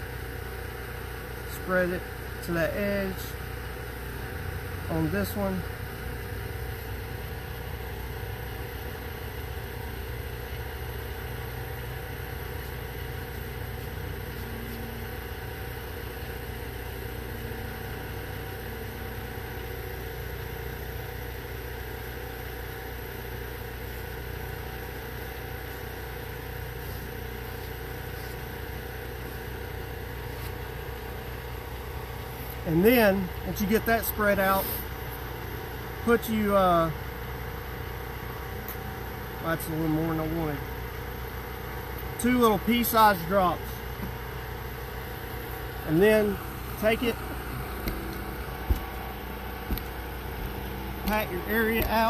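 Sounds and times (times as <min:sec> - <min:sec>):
engine idling hum: 0:00.0 - 0:52.0.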